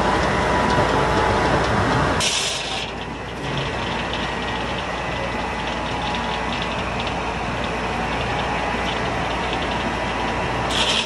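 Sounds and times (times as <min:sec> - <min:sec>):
circular sawmill running: 0:00.0 - 0:11.0.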